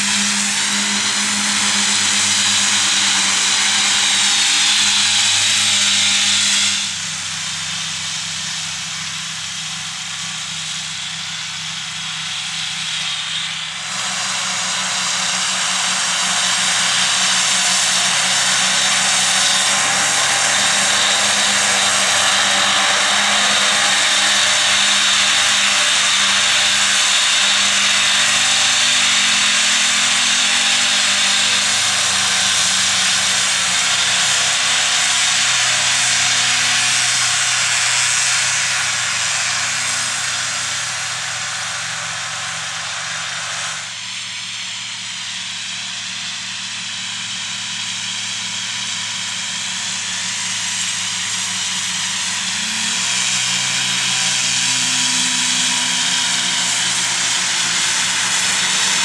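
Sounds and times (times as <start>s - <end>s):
high whir of mower discs: 0.0s - 59.0s
tractor diesel engine running: 6.8s - 36.0s, 38.8s - 59.0s.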